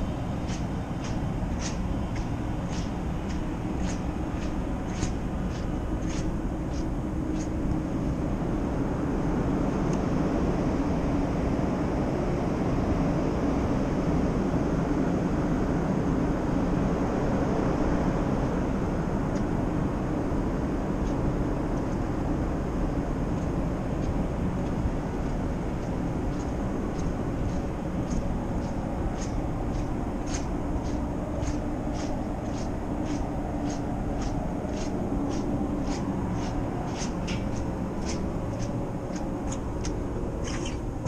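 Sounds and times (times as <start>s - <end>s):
ship machinery hum: 0.0s - 41.0s
wind buffeting microphone: 0.0s - 41.0s.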